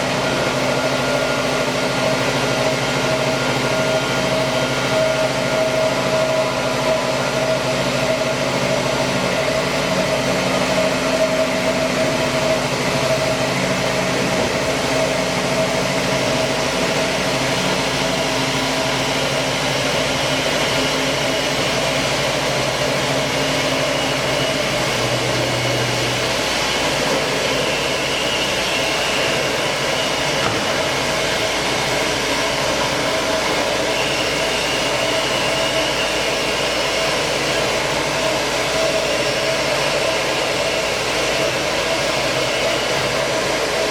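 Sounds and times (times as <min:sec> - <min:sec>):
band saw cutting steel: 0:00.0 - 0:43.9.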